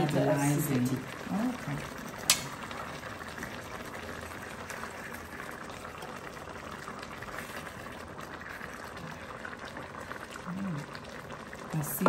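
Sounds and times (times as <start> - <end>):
stew boiling in a pot: 0.0 - 12.0.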